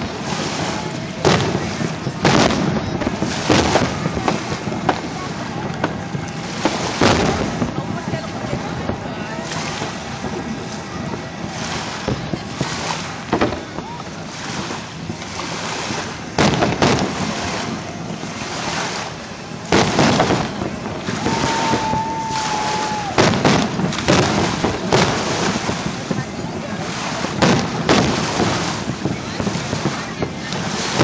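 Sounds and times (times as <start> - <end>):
fireworks bursting with booms: 0.0 - 31.0
wind noise on microphone: 0.0 - 31.0.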